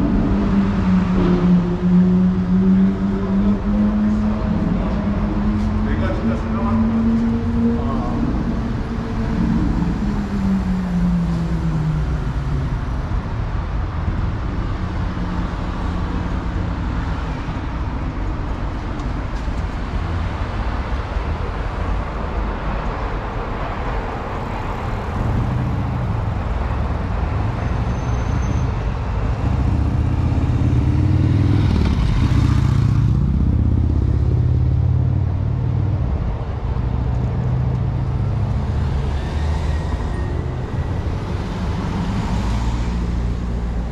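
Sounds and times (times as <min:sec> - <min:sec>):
street traffic passing: 0:00.0 - 0:43.9.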